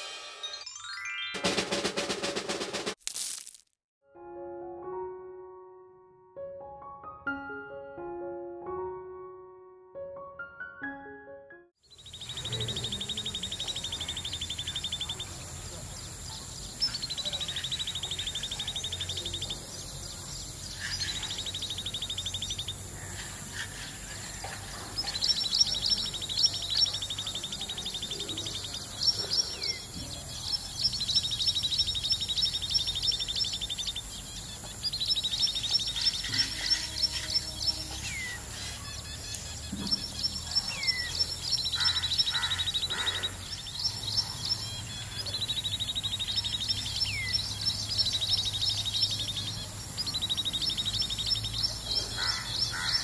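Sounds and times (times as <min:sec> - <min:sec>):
bird singing high notes and trill: 0:00.0 - 0:01.7, 0:11.8 - 0:53.0.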